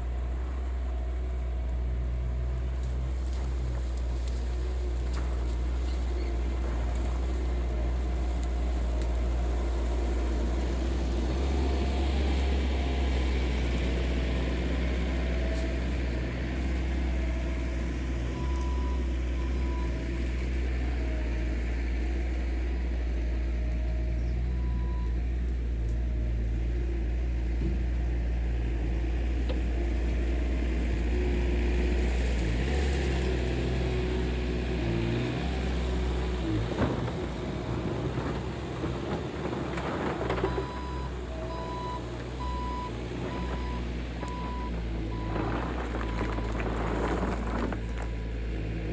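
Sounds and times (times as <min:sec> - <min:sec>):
skid steer engine running: 0:00.0 - 0:48.9.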